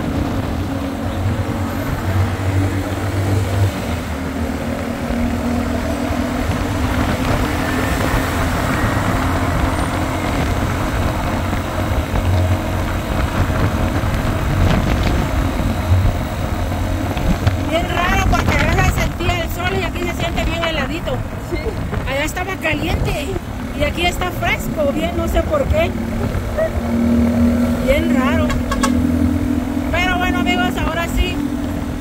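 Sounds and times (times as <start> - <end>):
car engine drone: 0.0 - 32.0
tyres on road: 0.0 - 32.0.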